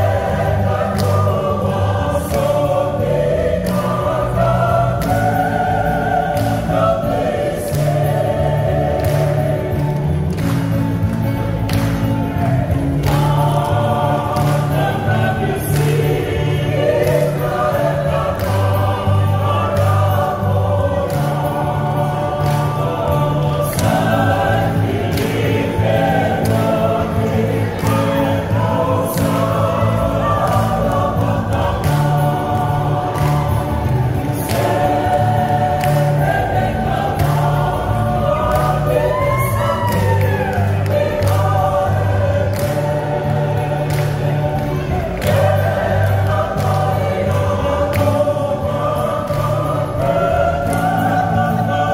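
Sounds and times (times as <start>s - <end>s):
women's choir singing: 0.0s - 51.9s.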